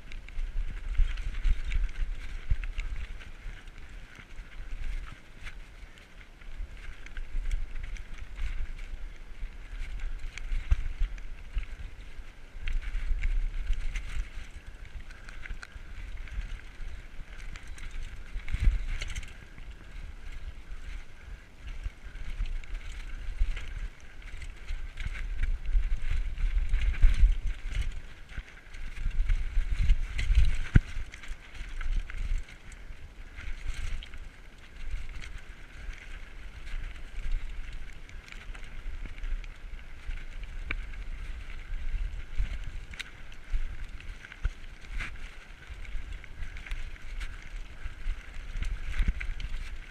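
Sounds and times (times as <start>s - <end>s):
mountain bike rattling and bumping: 0.0s - 49.9s
wind buffeting microphone: 0.0s - 49.9s.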